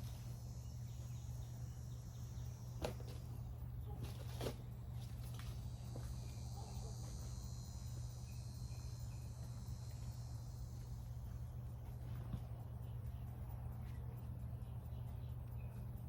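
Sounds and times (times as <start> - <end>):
constant low hum: 0.0 - 16.0
insects trilling: 0.0 - 16.0.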